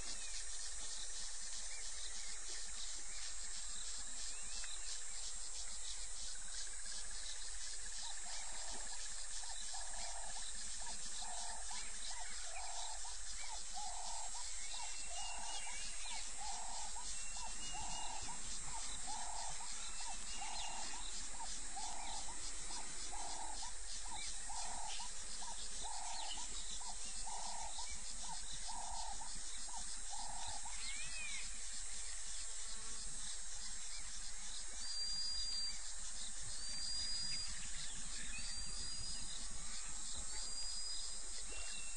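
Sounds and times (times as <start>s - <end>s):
crickets trilling: 0.0s - 41.9s.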